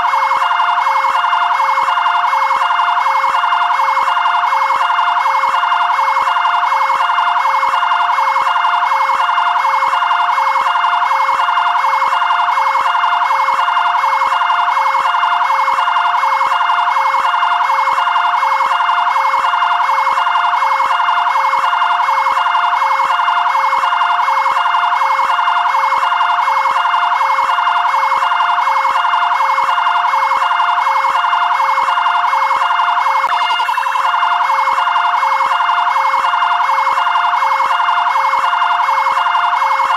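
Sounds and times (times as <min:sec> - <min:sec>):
electronic siren: 0:00.0 - 0:39.9.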